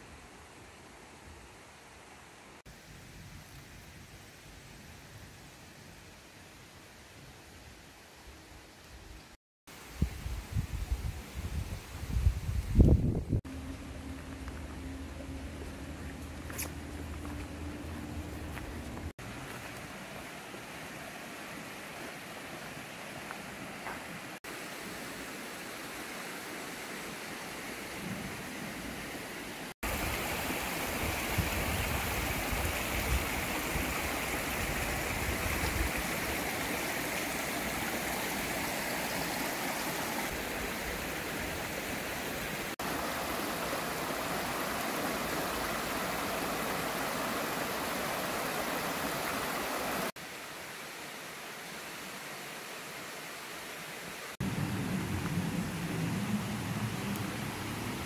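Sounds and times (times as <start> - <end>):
stream running over rocks: 5.4 - 58.0.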